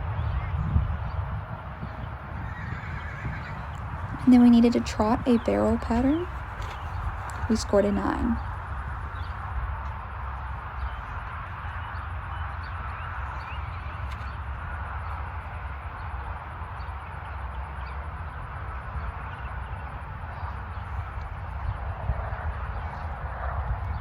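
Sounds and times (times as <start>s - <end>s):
low rumble and hiss: 0.0s - 23.9s.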